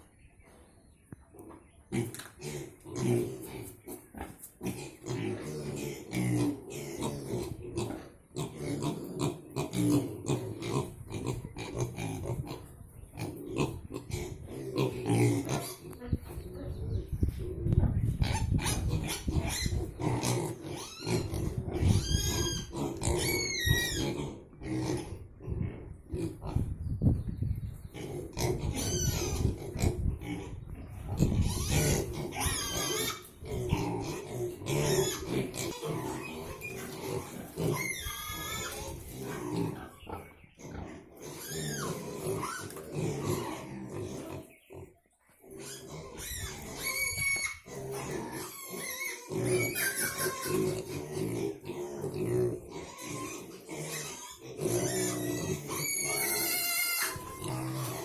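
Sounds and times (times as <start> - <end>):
pigs grunting: 1.4 - 26.8, 27.8 - 58.0
pigs squealing: 1.9 - 26.8, 27.9 - 58.0.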